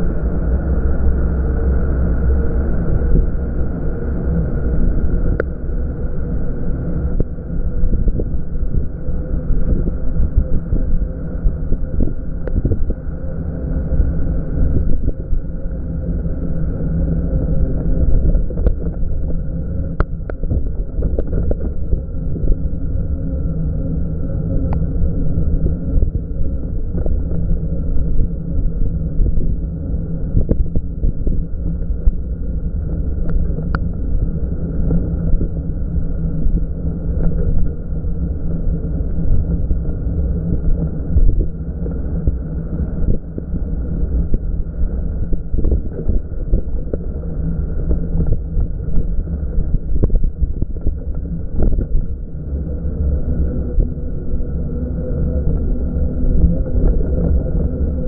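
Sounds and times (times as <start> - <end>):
constant low hum: 0.0 - 58.0
low rumble of riding: 0.0 - 58.0
wind noise: 0.0 - 58.0.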